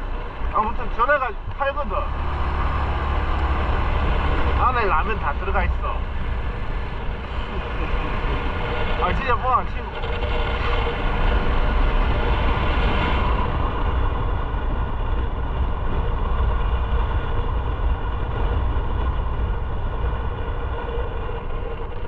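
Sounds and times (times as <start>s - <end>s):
wind rumble on microphone: 0.0s - 22.0s
motorcycle engine running: 1.4s - 22.0s.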